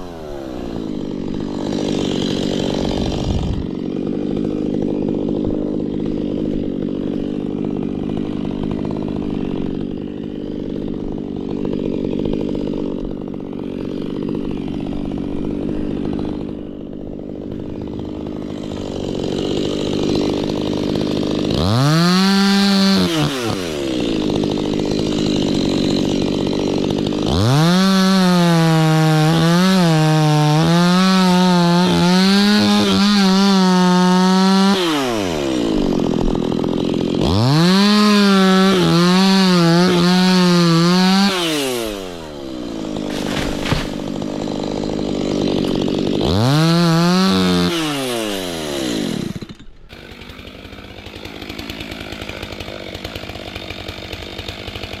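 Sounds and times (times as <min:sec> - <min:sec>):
chainsaw cutting wood: 0:00.0 - 0:55.0
chainsaw revving: 0:00.0 - 0:55.0.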